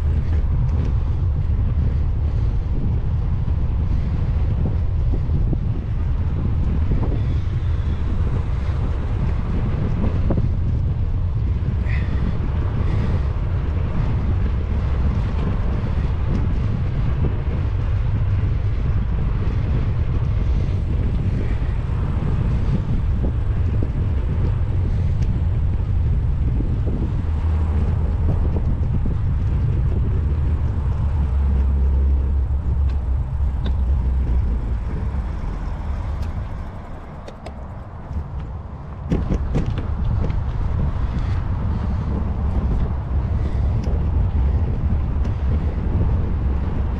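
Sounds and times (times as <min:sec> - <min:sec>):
wind rumbling over microphone: 0:00.0 - 0:46.9.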